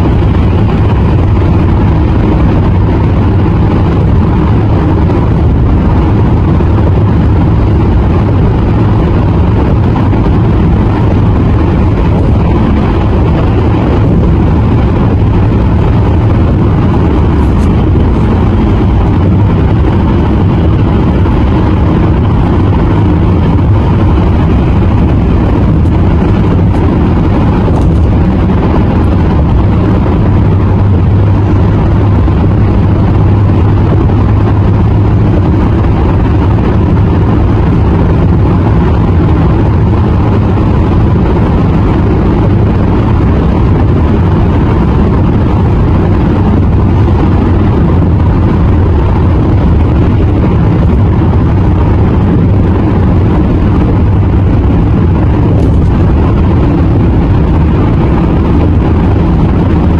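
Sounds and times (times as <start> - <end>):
car road rumble at speed: 0.0 - 59.9.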